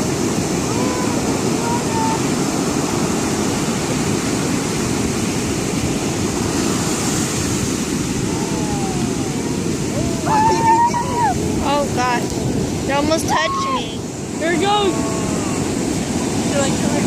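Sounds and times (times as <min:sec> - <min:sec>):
ocean surf on sandy beach: 0:00.0 - 0:17.0.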